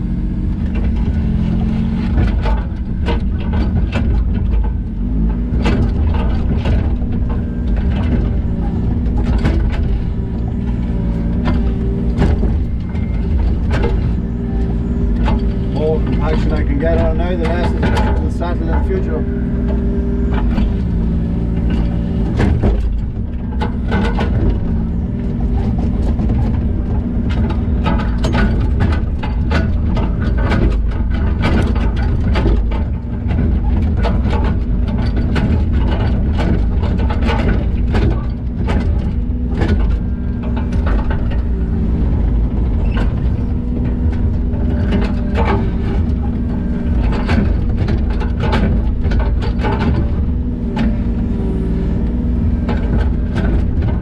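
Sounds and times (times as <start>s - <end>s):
diesel engine of digging machine: 0.0s - 54.0s
metal and stone clanking: 0.7s - 54.0s.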